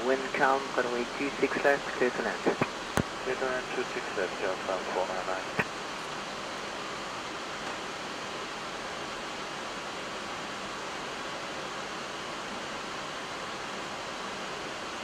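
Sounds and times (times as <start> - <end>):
cockpit air noise hiss: 0.0 - 15.0.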